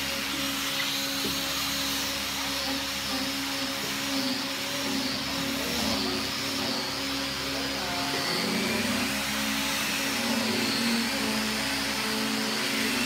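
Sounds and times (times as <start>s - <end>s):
electric power tool motor whine: 0.0s - 13.0s.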